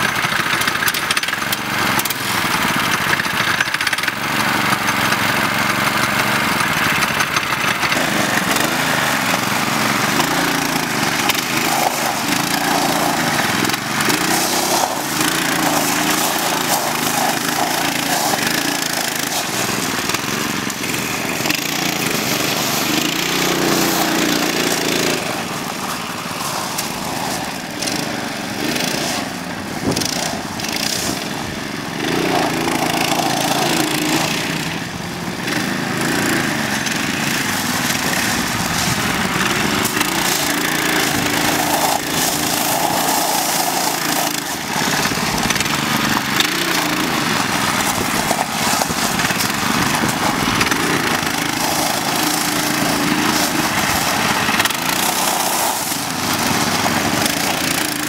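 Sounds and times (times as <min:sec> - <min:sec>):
mini bike engines revving: 0:00.0 - 0:58.0
tyres crunching on gravel: 0:00.1 - 0:58.0.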